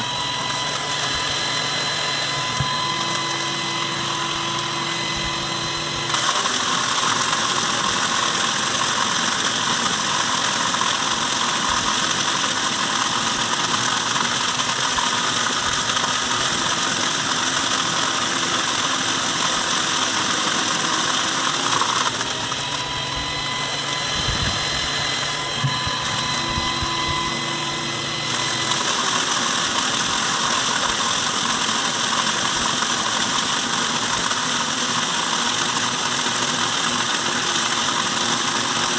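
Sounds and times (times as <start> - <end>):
wood chipper motor whine: 0.0 - 38.9.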